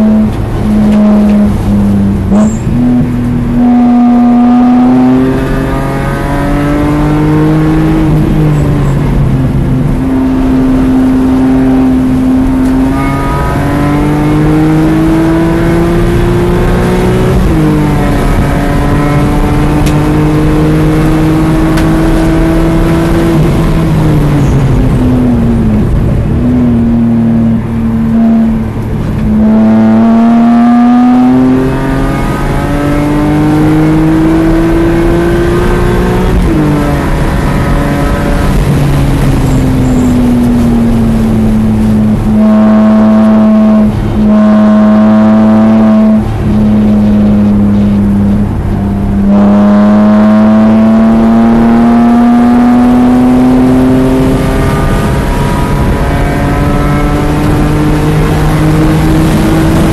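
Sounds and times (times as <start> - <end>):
car engine accelerating: 0.0 - 59.9
wind and tyre noise: 0.0 - 59.9.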